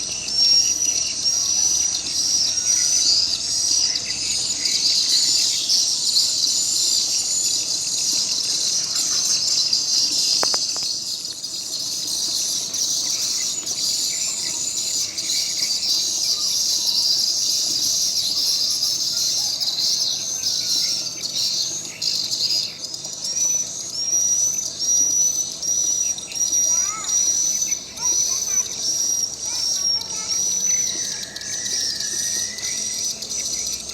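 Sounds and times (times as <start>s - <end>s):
rising bird chirps: 0.0s - 33.9s
swiftlets twittering: 0.0s - 33.9s.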